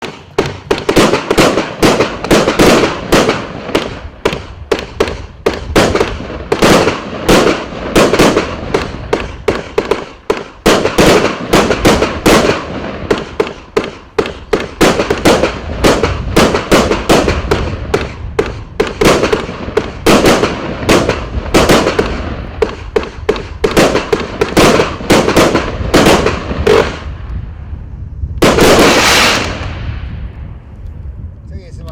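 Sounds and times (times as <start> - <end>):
firework crackling: 0.0 - 30.8
fireworks shots and bursts: 0.0 - 30.8.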